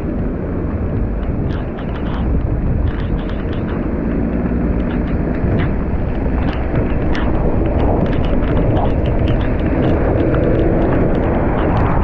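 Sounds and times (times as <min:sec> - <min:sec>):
car rumble on wet road: 0:00.0 - 0:12.0
heavy rain pelting a car: 0:00.0 - 0:12.0.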